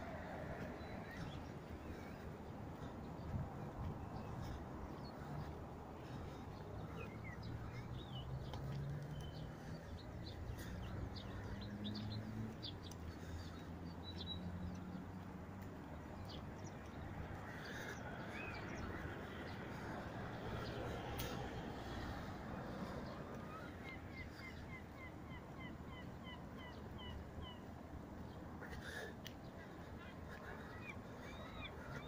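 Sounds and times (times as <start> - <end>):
birds chirping: 0.0 - 32.0
traffic rumble: 0.0 - 32.0.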